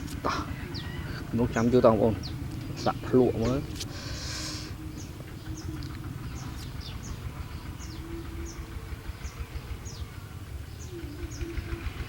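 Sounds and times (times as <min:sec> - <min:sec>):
steady low rumble: 0:00.0 - 0:11.6
small birds chirping: 0:00.0 - 0:11.9.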